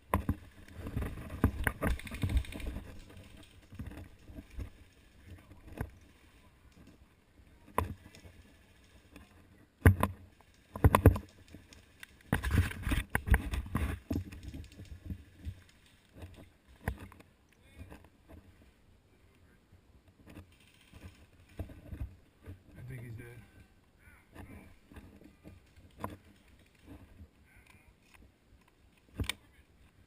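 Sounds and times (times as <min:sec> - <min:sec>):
rustling gear: 0:00.1 - 0:18.8, 0:20.3 - 0:29.3.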